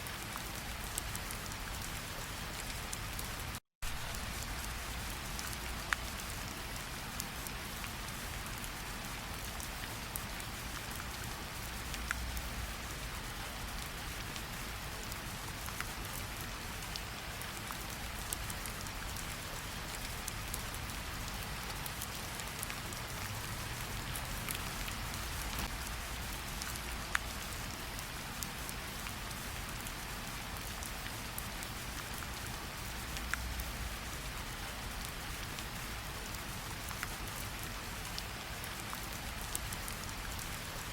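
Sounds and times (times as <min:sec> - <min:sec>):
steady rain in forest: 0:00.0 - 0:40.9.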